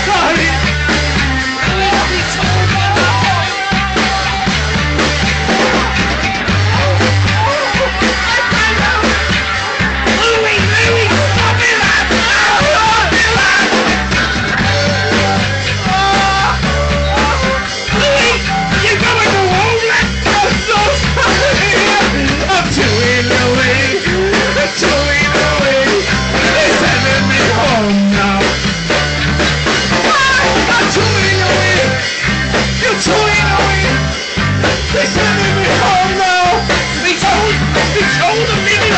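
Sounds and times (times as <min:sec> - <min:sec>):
person singing: 0:00.0 - 0:28.7, 0:29.9 - 0:38.9
bass guitar line: 0:00.0 - 0:38.9
drums: 0:00.0 - 0:38.9
electric guitar: 0:00.0 - 0:38.9.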